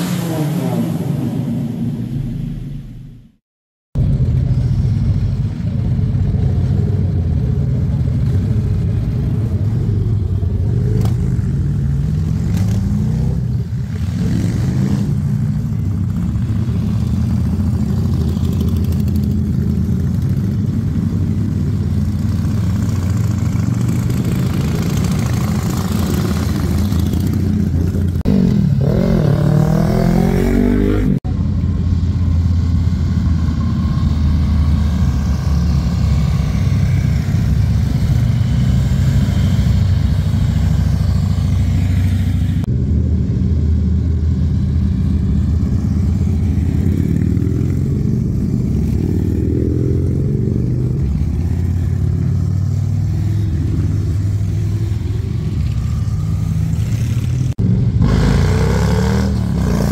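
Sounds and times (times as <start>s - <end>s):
motorcycles revving past: 6.4s - 59.9s.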